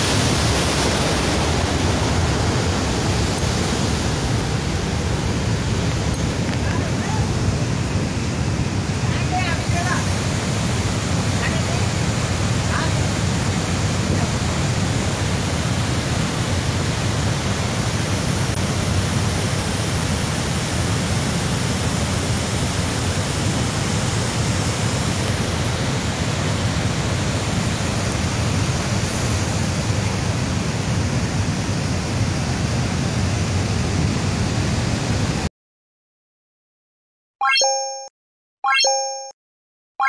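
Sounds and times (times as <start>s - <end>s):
water rushing over dam: 0.0s - 35.4s.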